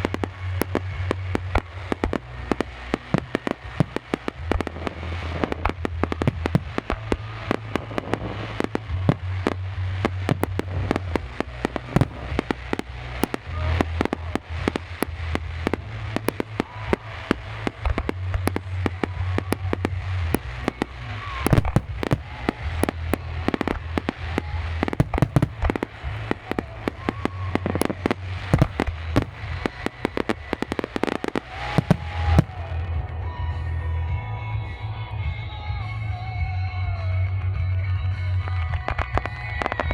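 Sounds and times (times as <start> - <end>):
fireworks bangs and crackling: 0.0 - 36.2, 36.9 - 39.9.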